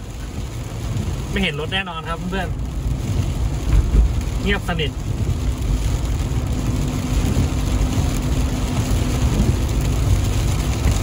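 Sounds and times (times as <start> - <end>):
tyres rumbling on road: 0.0 - 11.0.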